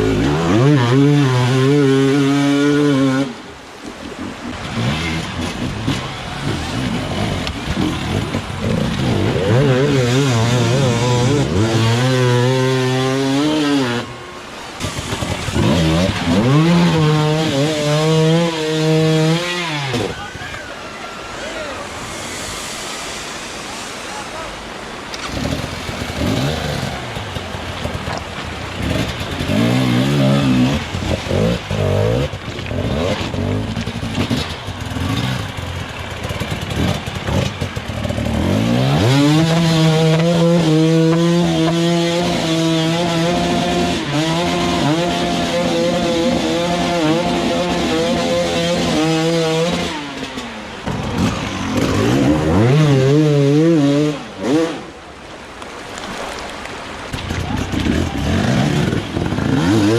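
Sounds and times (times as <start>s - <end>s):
dirt bike engine revving: 0.0s - 3.4s, 4.5s - 20.3s, 22.0s - 55.1s, 57.2s - 59.9s.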